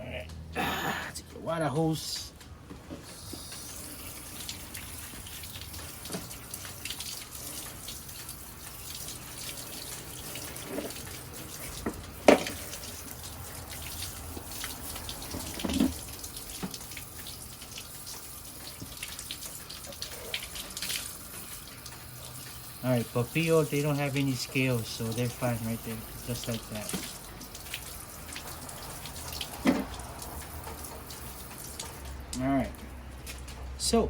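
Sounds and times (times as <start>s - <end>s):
water running from a hose: 3.0s - 34.0s.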